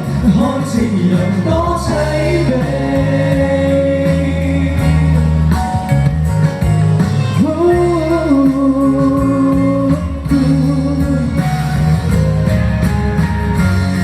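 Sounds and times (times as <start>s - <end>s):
guitar accompaniment: 0.0s - 14.0s
person singing pop ballad: 0.0s - 14.0s.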